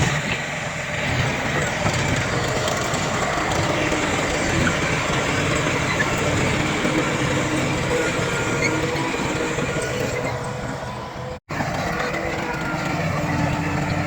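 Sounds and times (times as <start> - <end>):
heavy diesel machinery running: 0.0 - 14.0.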